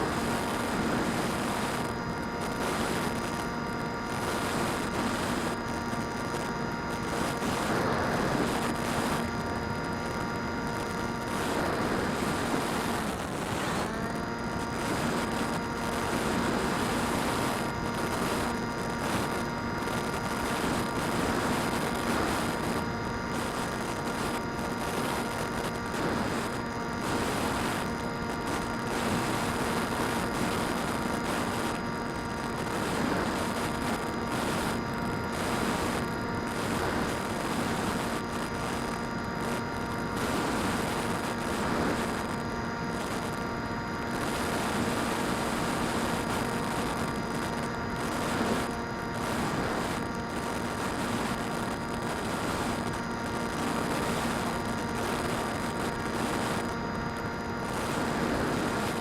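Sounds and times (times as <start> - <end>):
drone motors and propellers whining: 0.0 - 59.0.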